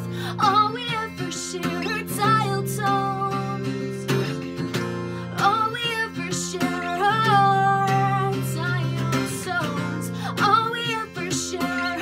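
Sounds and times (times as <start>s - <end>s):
woman singing: 0.0s - 4.5s, 5.2s - 12.0s
strummed acoustic guitar: 0.0s - 12.0s.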